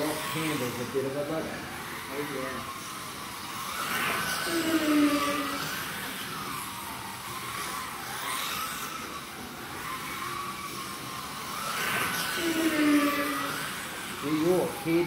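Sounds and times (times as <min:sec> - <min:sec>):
slot car motors whining: 0:00.0 - 0:15.0.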